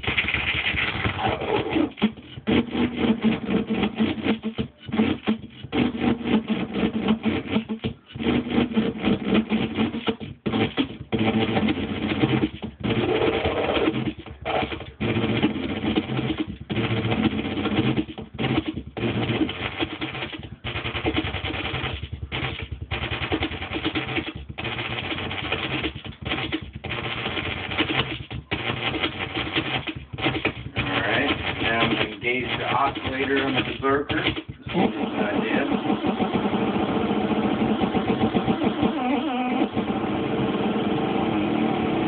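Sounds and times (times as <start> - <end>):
harsh clattering synthesizer drum loop: 0.0 - 42.0.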